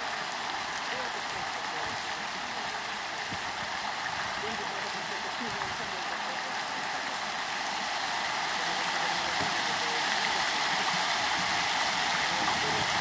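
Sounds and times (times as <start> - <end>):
fountain jets splashing: 0.0 - 13.0.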